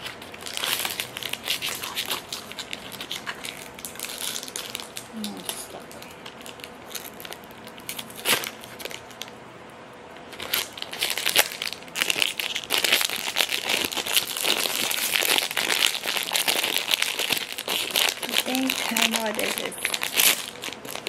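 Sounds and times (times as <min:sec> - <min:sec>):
foil wrapper crinkling: 0:00.0 - 0:09.4, 0:10.2 - 0:21.0.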